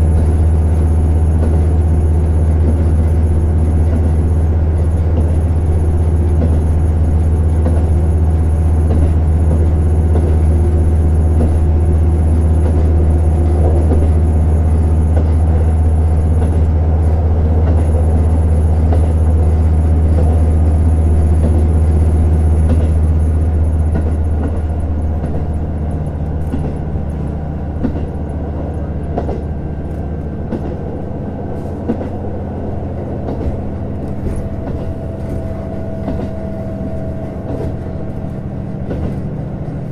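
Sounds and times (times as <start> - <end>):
diesel engine droning: 0.0 - 39.9
sharp clicks from rails: 0.0 - 39.9
train wheel rumble: 0.0 - 39.9.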